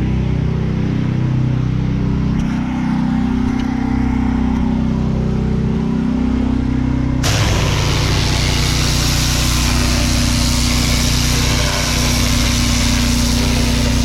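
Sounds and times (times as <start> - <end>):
pressure washer engine running: 0.0 - 14.0.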